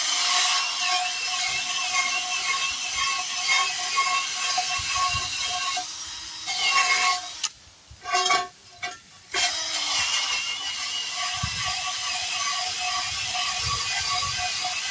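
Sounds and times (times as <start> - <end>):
power tool running under load: 0.0 - 7.5, 9.4 - 14.9.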